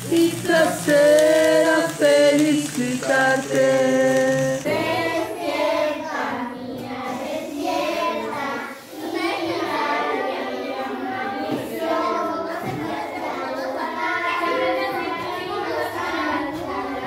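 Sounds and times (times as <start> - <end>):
children singing a birthday song: 0.0 - 17.0.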